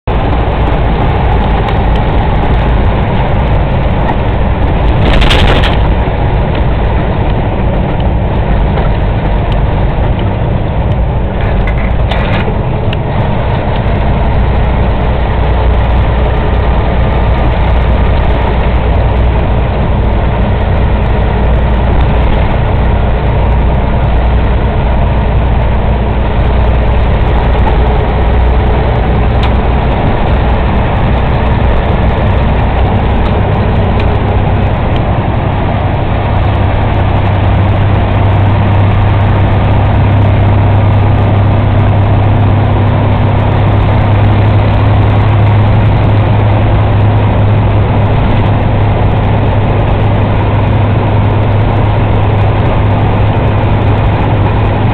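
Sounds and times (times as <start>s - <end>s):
road noise: 0.0s - 54.9s
truck engine drone: 0.0s - 54.9s.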